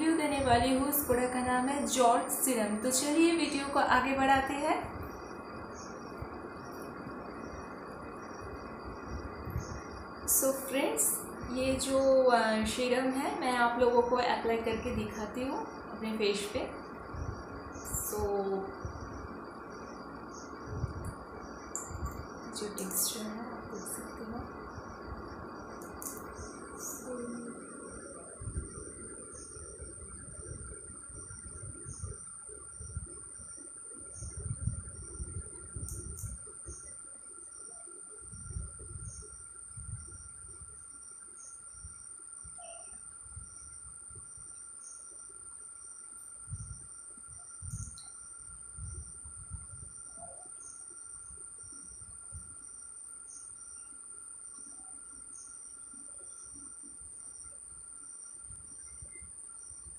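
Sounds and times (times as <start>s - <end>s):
crickets chirping: 0.0s - 59.9s
steady high whine: 0.0s - 59.9s.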